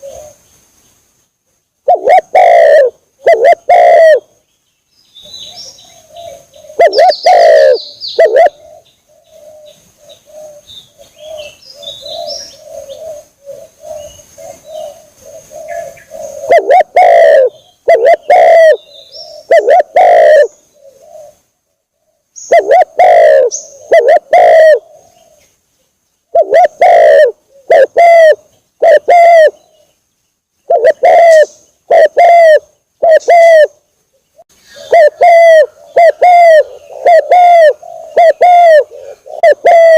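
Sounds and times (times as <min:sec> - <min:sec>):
dove cooing: 0:00.0 - 0:00.4, 0:01.8 - 0:04.3, 0:05.2 - 0:25.5, 0:26.3 - 0:29.9, 0:30.7 - 0:39.9
small birds chirping: 0:03.2 - 0:16.8, 0:17.4 - 0:39.7.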